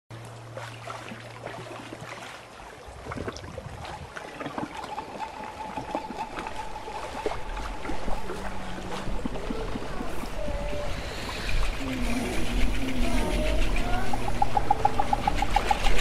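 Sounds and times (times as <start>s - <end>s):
low steady hum: 0.1s - 16.0s
water trickling and dripping: 0.1s - 16.0s.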